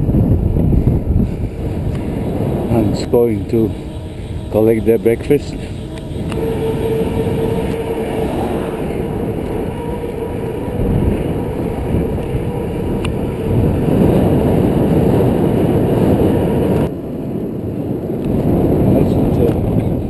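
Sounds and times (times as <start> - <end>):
bike tyre and road noise: 0.0 - 20.0
wind on microphone: 0.0 - 20.0.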